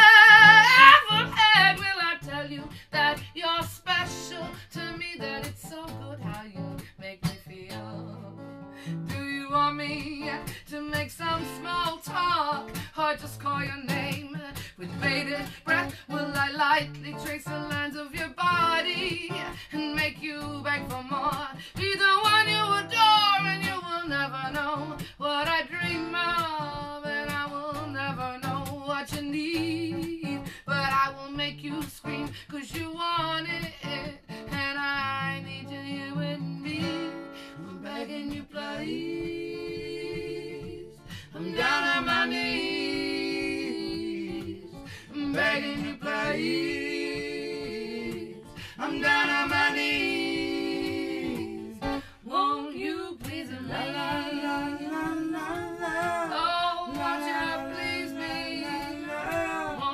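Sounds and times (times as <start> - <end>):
acoustic guitar: 0.0 - 59.9
woman singing: 0.0 - 59.9.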